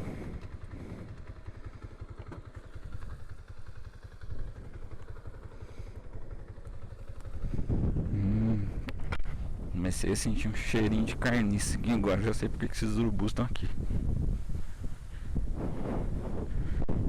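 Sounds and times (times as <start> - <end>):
wind rumbling on microphone: 0.0 - 1.8, 2.5 - 17.0
motorcycle engine idling: 0.0 - 17.0.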